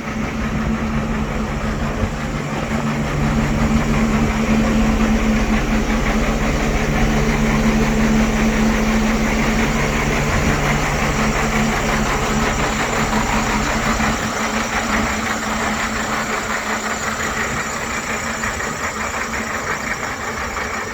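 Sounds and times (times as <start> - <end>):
strong low hum: 0.0 - 16.9
diesel truck engine running: 0.0 - 20.9.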